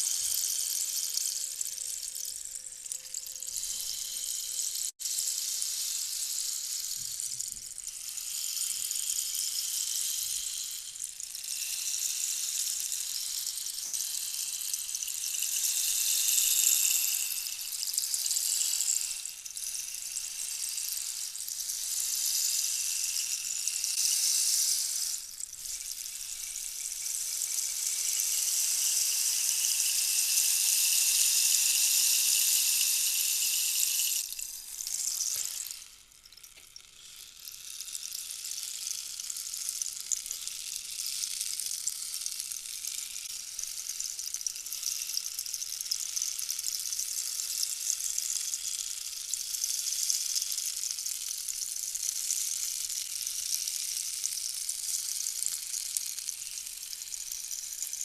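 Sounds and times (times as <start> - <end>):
grainy high-pitched hiss: 0.0 - 58.0.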